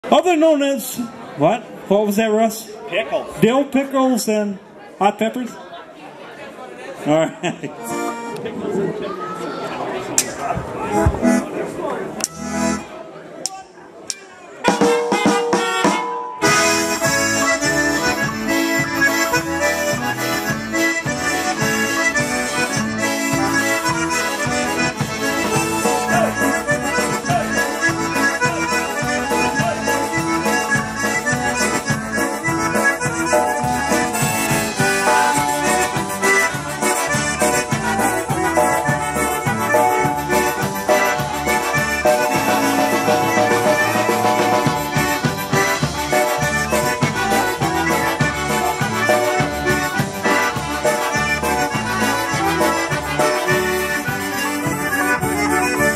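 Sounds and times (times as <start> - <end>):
polka band playing: 7.7 - 8.8, 10.2 - 12.9, 14.1 - 55.9.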